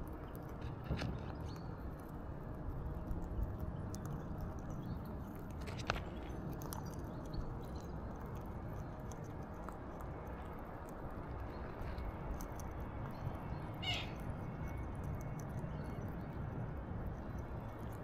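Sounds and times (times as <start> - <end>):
parakeet beak cracking food: 0.0 - 16.4
low background rumble: 0.0 - 18.0.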